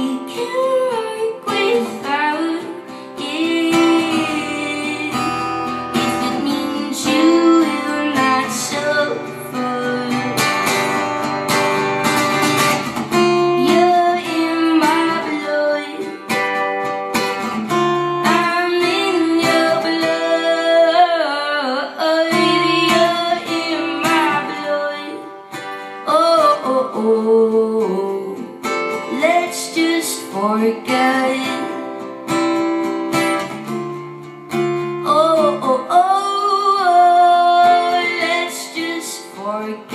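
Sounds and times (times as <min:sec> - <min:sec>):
woman singing: 0:00.0 - 0:11.8, 0:12.5 - 0:32.2, 0:34.8 - 0:39.9
acoustic guitar playing: 0:00.0 - 0:39.9.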